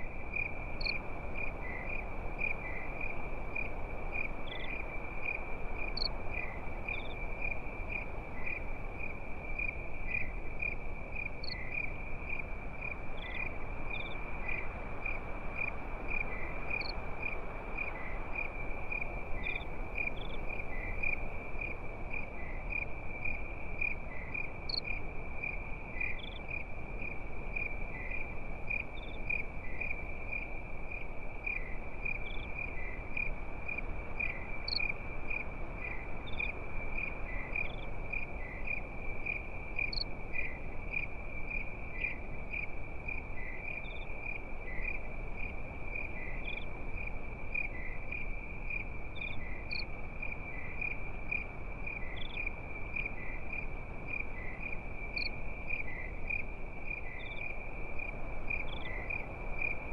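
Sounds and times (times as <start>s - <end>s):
crickets chirping: 0.0s - 59.9s
soft hiss: 0.0s - 59.9s.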